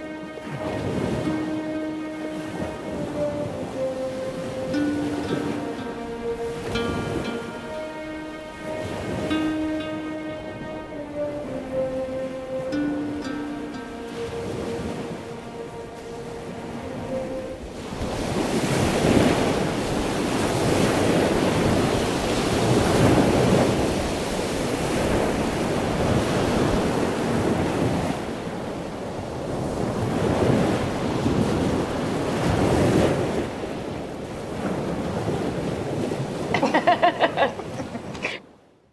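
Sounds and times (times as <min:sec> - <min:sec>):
choppy sea waves: 0:00.0 - 0:38.9
wind: 0:00.0 - 0:38.9.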